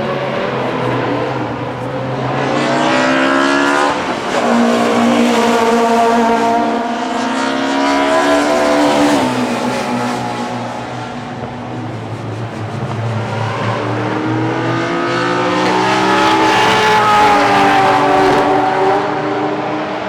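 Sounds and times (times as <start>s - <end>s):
race car engine shifting gears: 0.0s - 19.2s.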